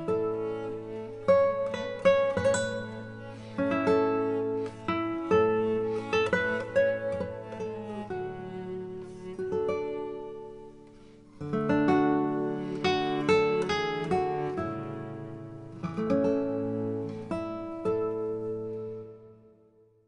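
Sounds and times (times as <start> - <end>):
acoustic guitar playing: 0.0 - 19.9.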